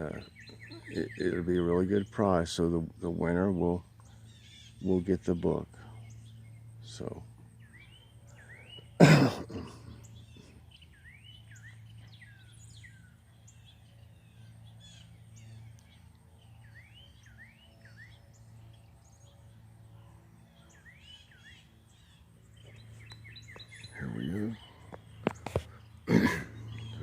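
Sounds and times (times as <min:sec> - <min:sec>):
small songbirds chirping: 0:00.0 - 0:09.0, 0:09.6 - 0:27.0
steady low hum: 0:00.0 - 0:27.0.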